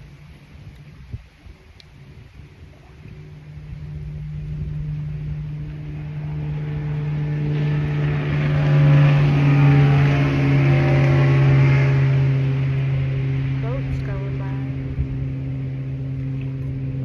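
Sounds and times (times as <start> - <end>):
motorboat engine passing: 0.0 - 17.0.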